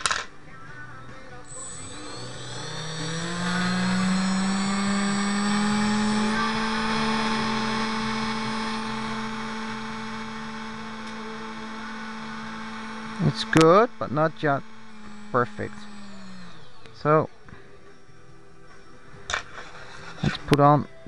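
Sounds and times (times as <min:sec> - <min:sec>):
electric motor whining: 0:01.3 - 0:20.6.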